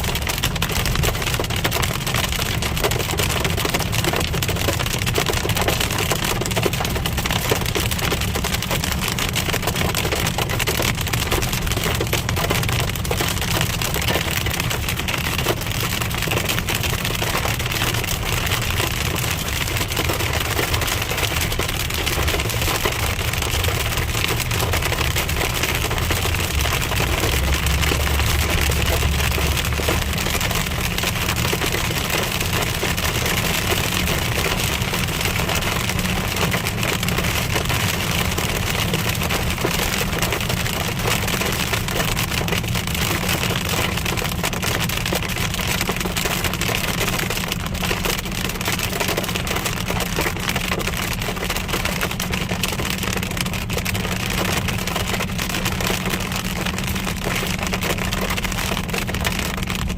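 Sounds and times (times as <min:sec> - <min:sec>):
car rumbling on road: 0:00.0 - 0:59.9
hail and rain on car roof: 0:00.0 - 0:59.9.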